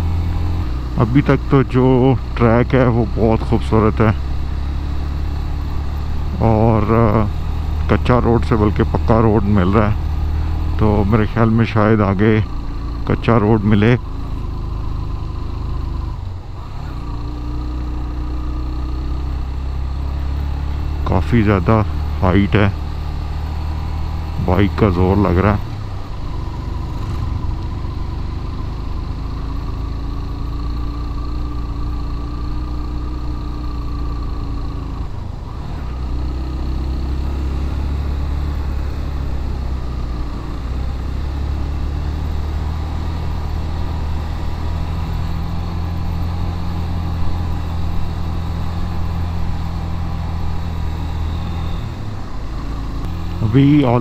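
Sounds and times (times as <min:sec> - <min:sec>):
motorcycle engine straining: 0:00.0 - 0:54.0.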